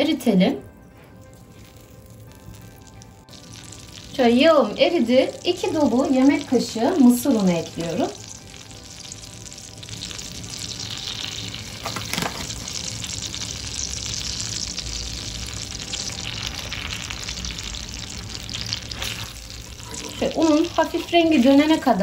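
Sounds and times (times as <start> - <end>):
butter sizzling in a pan: 1.2 - 22.0.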